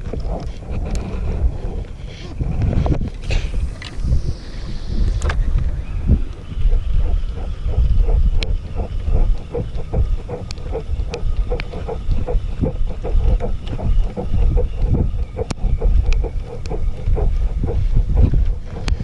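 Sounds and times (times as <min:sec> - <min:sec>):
wind buffeting microphone: 0:00.0 - 0:19.0
sharp clicks: 0:03.0 - 0:19.0.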